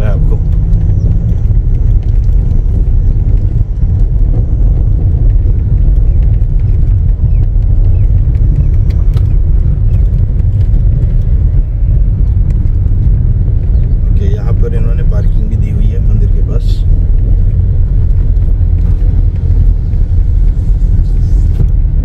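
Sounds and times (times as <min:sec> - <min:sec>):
car rumbling on rough road: 0:00.0 - 0:22.0.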